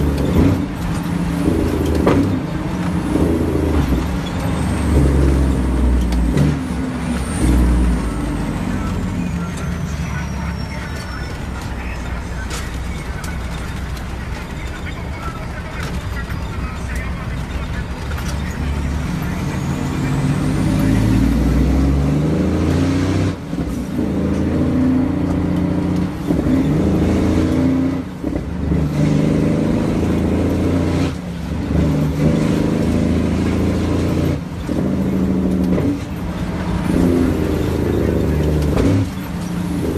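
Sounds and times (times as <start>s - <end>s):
diesel truck engine under load: 0.0s - 39.9s.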